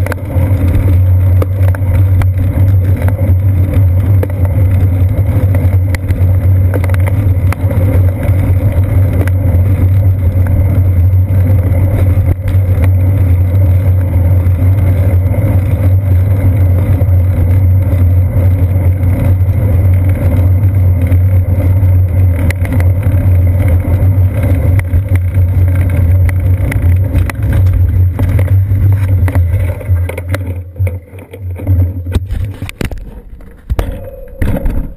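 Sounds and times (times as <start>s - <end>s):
bicycle riding rumble: 0.0s - 34.9s
wind on camera: 0.0s - 34.9s.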